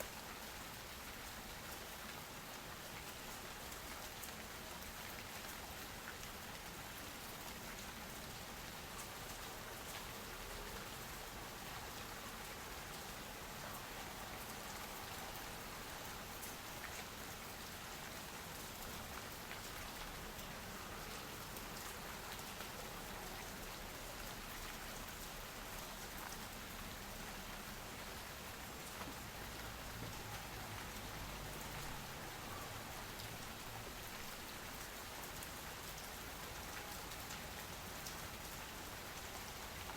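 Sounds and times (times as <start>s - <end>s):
raindrops pattering on surfaces: 0.0s - 39.9s
soft rain falling: 0.0s - 39.9s.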